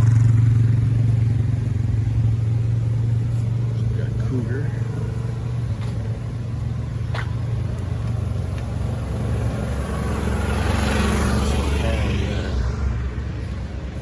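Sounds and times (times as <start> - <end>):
car engine passing slowly: 0.0 - 14.0.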